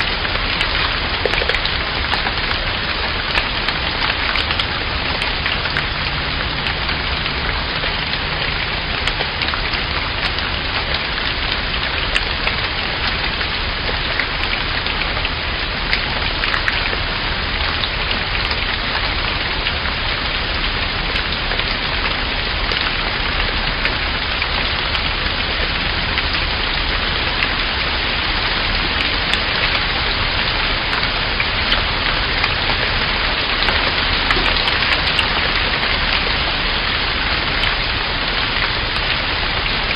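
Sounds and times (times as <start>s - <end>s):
raindrops pattering: 0.0s - 39.9s
steady rain hiss: 0.0s - 39.9s.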